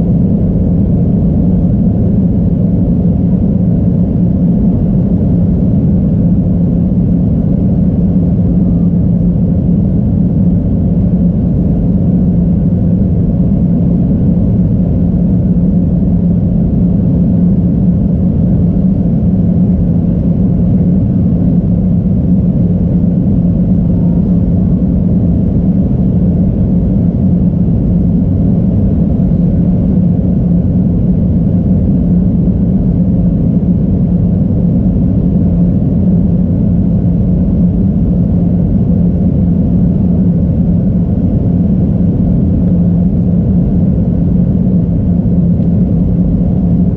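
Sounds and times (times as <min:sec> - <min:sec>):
airliner cabin drone: 0:00.0 - 0:46.9.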